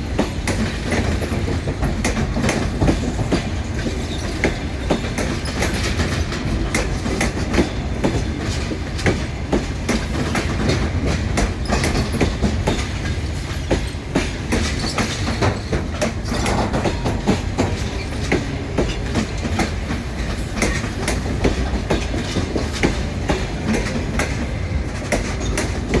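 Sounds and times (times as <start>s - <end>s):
train rolling rumble: 0.0s - 26.0s
train wheels clicking over rail joints: 0.0s - 26.0s.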